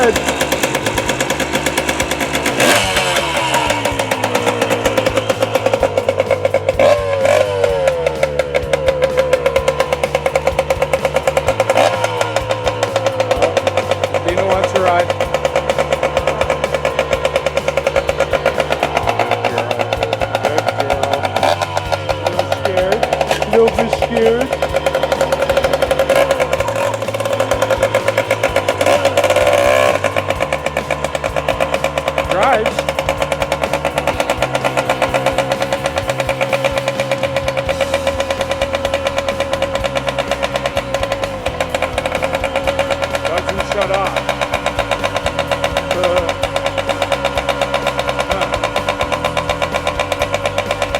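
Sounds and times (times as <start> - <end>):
two-stroke motorcycle engine idling: 0.0 - 50.9.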